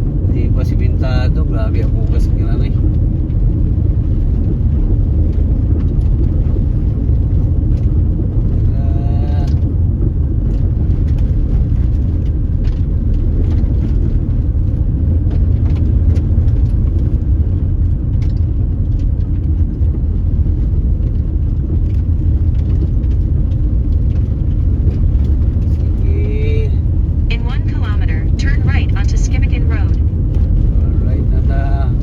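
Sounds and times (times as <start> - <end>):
car driving on unpaved road: 0.0 - 32.0.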